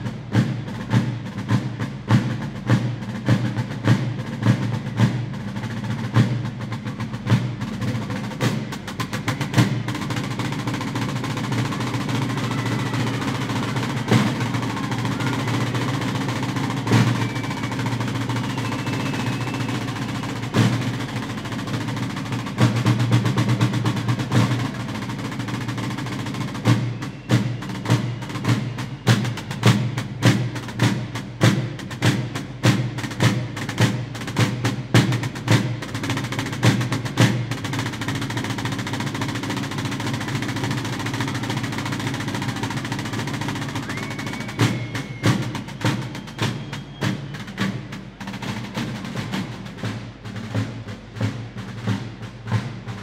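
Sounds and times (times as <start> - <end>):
continuous drum roll: 0.0 - 53.0
sharp accented drum strokes: 0.0 - 53.0.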